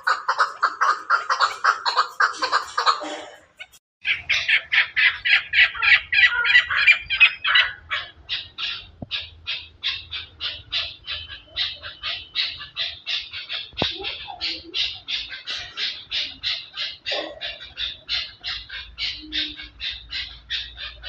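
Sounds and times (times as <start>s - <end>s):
partridges clucking calls: 0.0s - 21.0s.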